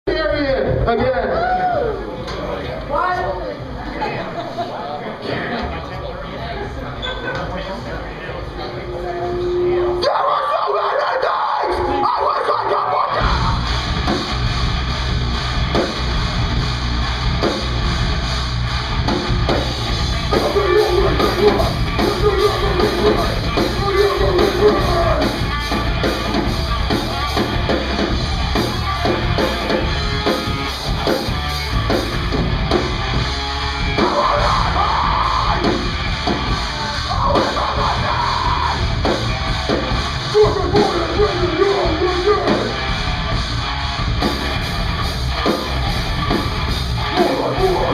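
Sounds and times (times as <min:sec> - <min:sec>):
drum kit: 0:00.1 - 0:04.0, 0:13.1 - 0:47.9
heavy rock band playing: 0:00.1 - 0:04.5, 0:07.8 - 0:47.9.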